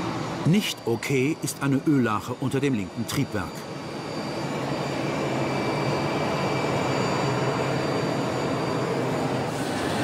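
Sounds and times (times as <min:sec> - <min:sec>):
jet turbine rumble: 0:00.0 - 0:10.0.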